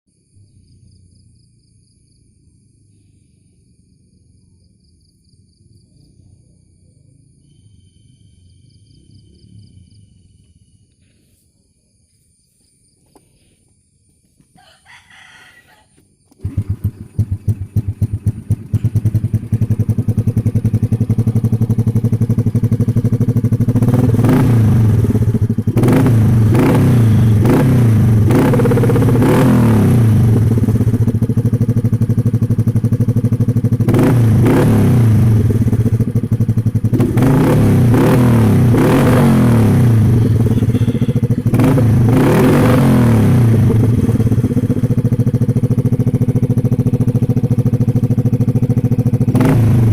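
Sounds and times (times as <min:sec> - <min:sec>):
motorcycle engine idling and revving: 0:00.1 - 0:11.4, 0:12.1 - 0:49.9.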